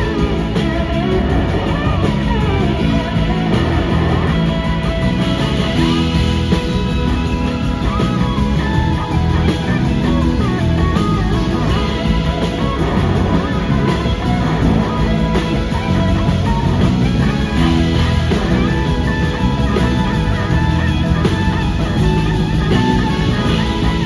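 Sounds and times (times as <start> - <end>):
bass and drums: 0.0 - 24.0
electric guitar lead: 0.0 - 24.0.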